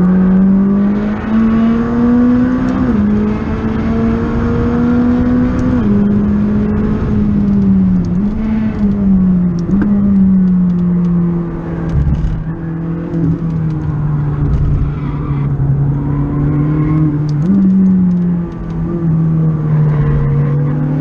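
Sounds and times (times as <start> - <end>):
car engine from inside cabin: 0.0 - 21.0.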